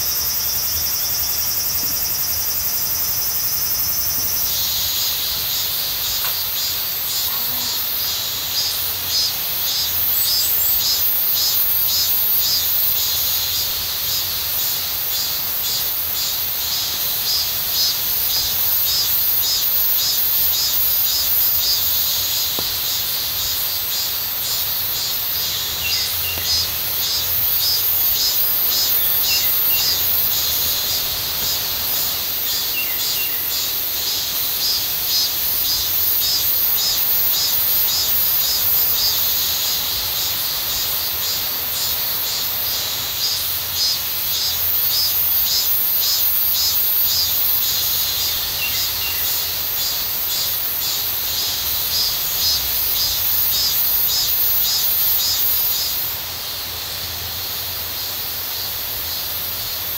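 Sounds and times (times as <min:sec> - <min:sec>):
grass insects chirping: 0:00.0 - 0:59.9.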